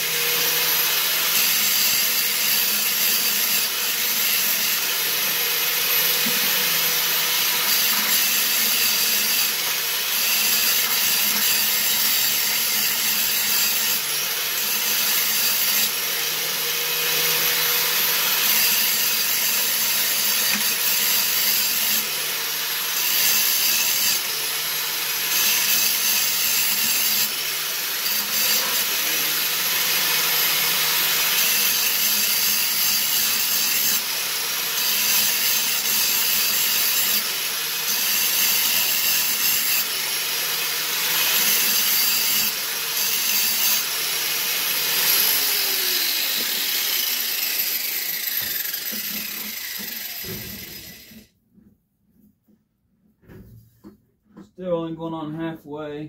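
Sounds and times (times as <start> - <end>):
power tool grinding metal: 0.0 - 51.3.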